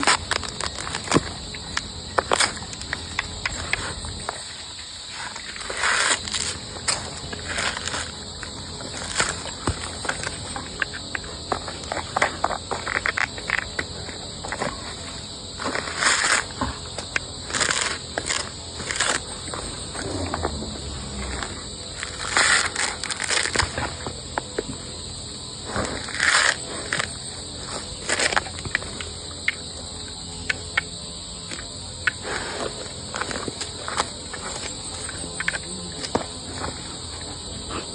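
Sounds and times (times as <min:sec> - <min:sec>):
insects trilling: 0:00.0 - 0:37.9.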